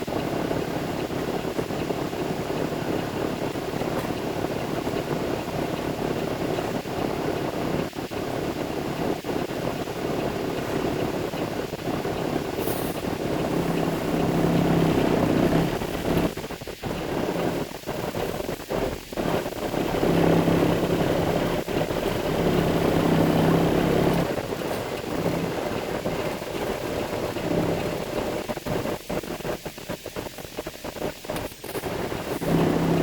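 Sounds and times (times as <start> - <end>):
truck engine droning: 0.0 - 33.0.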